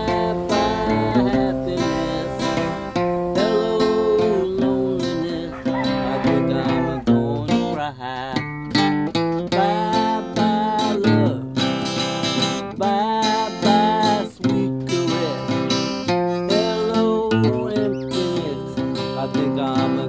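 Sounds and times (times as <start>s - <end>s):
acoustic guitar strumming: 0.0s - 20.0s
man singing: 0.0s - 20.0s.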